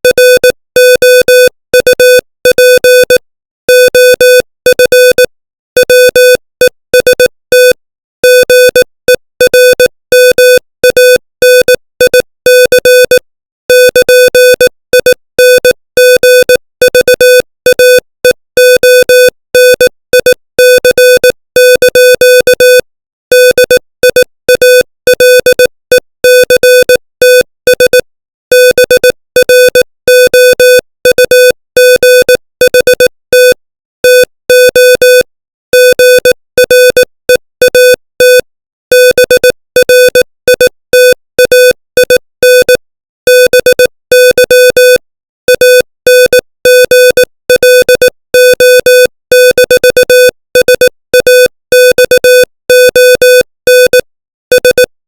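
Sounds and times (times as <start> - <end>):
morse code tone beeping: 0.0 - 54.9.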